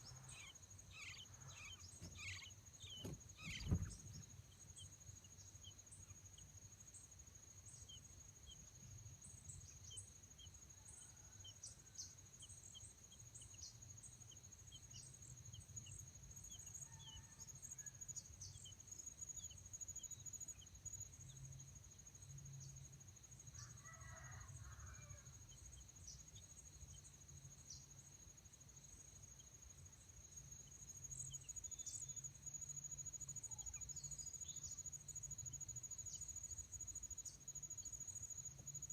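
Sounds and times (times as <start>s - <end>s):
high insect chirps: 0.0s - 38.9s
insect stridulation drone: 0.0s - 38.9s.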